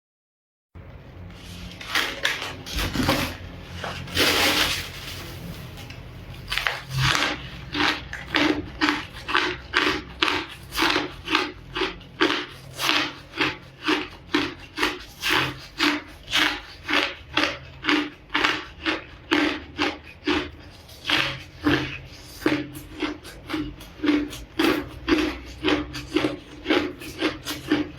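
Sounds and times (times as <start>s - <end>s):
person chewing crunchy ice: 1.3s - 27.9s.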